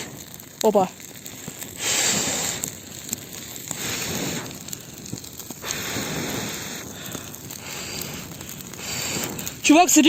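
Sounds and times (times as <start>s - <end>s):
campfire crackling and hissing: 0.0s - 10.0s.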